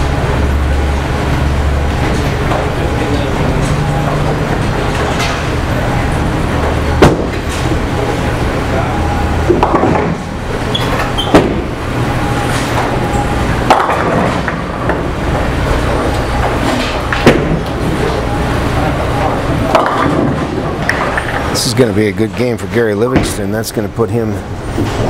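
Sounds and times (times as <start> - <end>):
bowling balls rolling rumble: 0.0 - 25.0.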